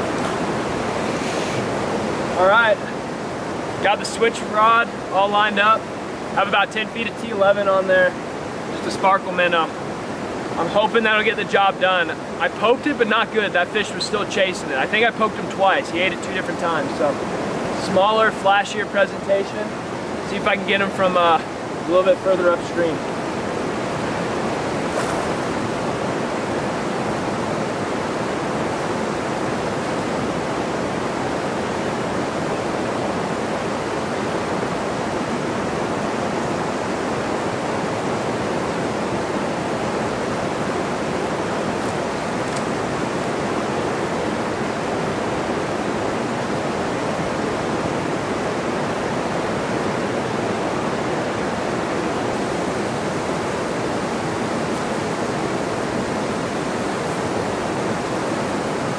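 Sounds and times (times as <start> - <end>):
river rushing over rocks: 0.0 - 58.9.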